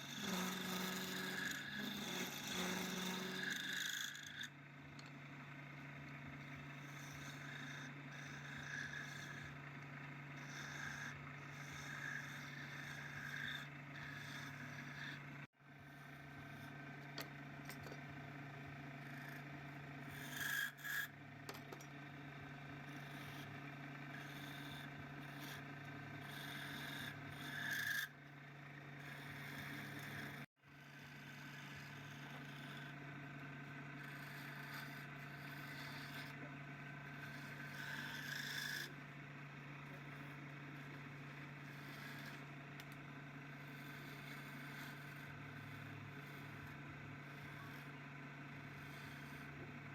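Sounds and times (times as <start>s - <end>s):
motor humming: 0.0s - 49.9s
tool scraping a surface: 0.0s - 49.9s.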